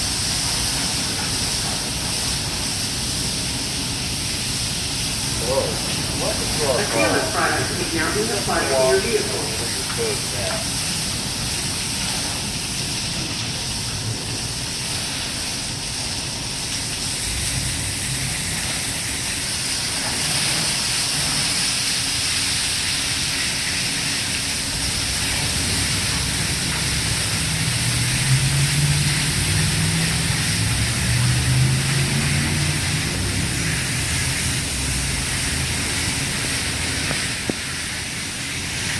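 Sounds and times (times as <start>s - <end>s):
water jets hissing: 0.0s - 38.9s.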